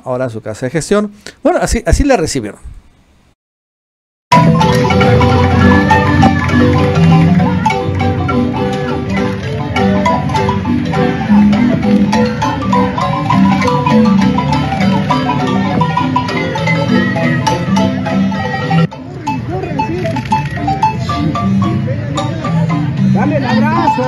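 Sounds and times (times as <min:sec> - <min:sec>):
wooden marimba tune: 0:04.3 - 0:24.0.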